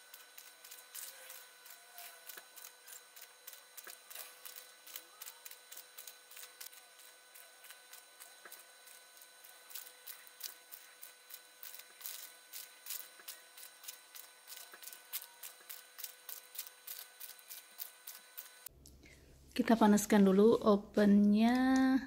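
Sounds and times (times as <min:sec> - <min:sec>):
grated cheese sprinkling ticks: 0:00.0 - 0:18.7
faint steady whine: 0:00.0 - 0:22.0.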